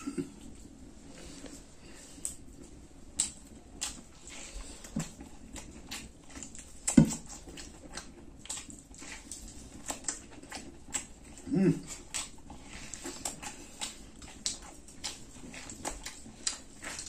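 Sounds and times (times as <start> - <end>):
wet chewing and lip-smacking: 0.2 - 17.0.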